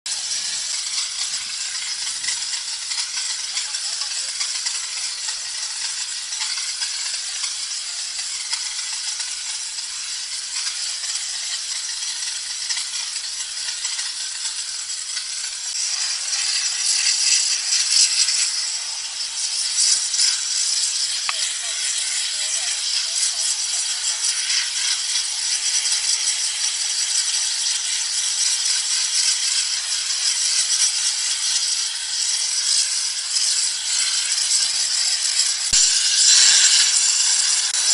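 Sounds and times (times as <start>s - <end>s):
steam jet hissing: 0.1s - 37.9s.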